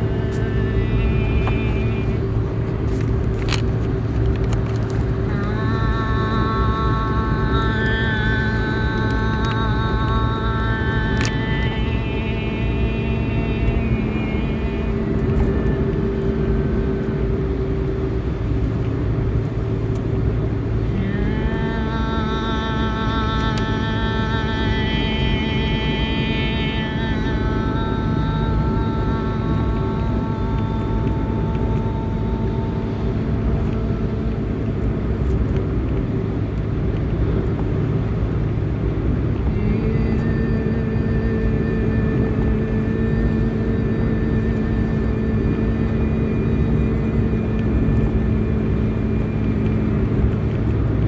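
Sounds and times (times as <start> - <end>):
low hum: 0.0 - 51.0
sustained droning tones: 0.0 - 51.0.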